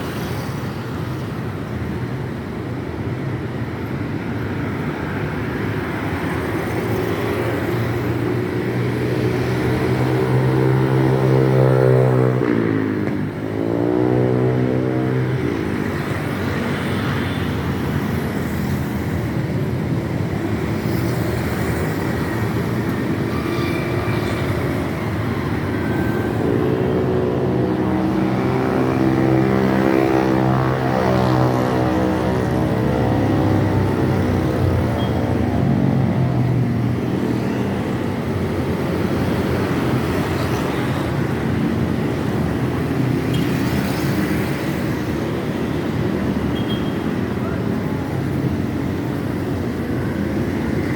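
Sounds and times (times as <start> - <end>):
road noise: 0.0 - 50.9.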